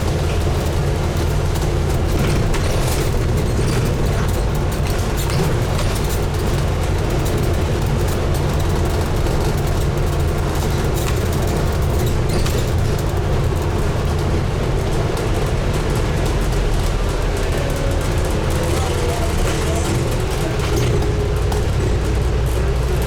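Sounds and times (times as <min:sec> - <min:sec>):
bus diesel engine running: 0:00.0 - 0:23.0
road and cabin noise: 0:00.0 - 0:23.0.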